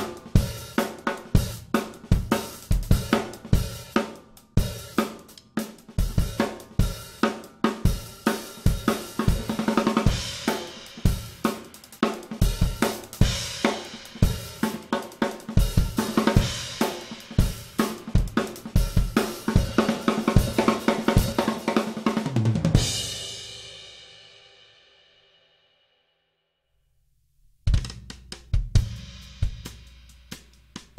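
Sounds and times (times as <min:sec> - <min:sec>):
drum kit playing a groove: 0:00.0 - 0:23.7, 0:27.7 - 0:30.9.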